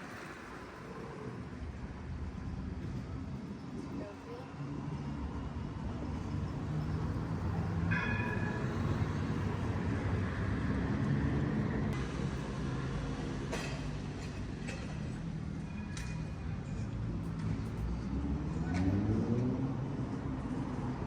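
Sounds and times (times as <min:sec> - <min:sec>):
tram wheels rumbling on rails: 0:00.0 - 0:18.1.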